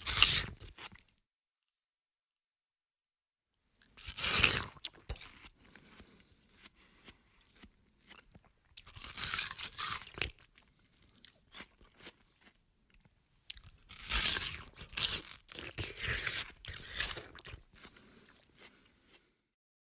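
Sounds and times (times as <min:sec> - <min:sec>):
person chewing watermelon: 0:00.0 - 0:01.2, 0:03.8 - 0:19.5.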